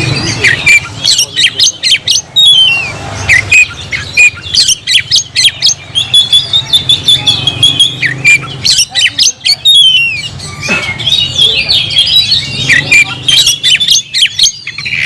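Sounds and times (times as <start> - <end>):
songbird chirps and squawks: 0.0 - 15.0.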